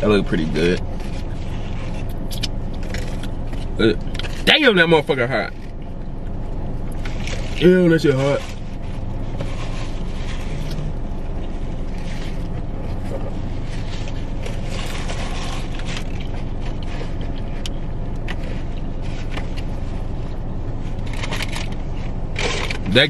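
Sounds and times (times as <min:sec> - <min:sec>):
car engine hum inside cabin: 0:00.0 - 0:23.0.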